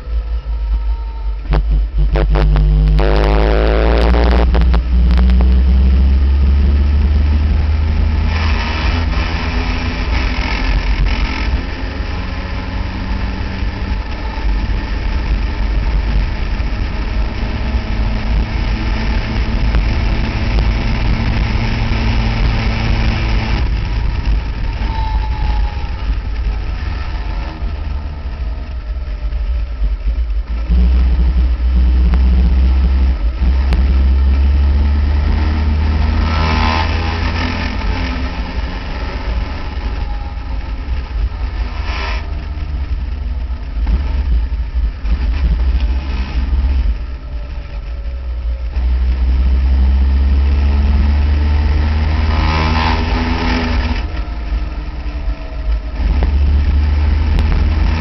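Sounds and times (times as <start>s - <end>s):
racing car engine running hard: 0.0s - 58.0s
wind rumble on microphone: 0.0s - 58.0s.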